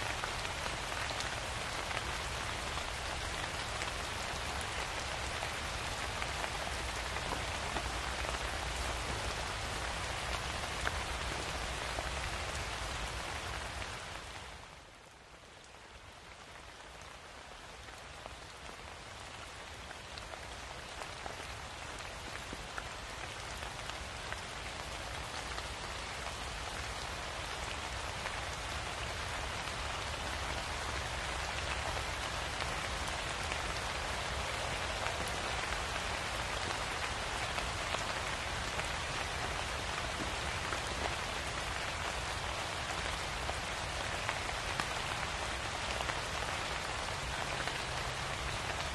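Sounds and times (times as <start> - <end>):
rain falling steadily: 0.0 - 48.9.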